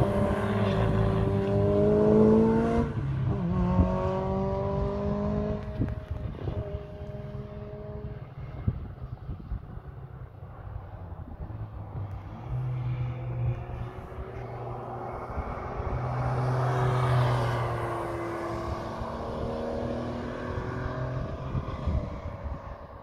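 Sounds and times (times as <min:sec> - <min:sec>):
sports car engine passing: 0:00.0 - 0:23.0.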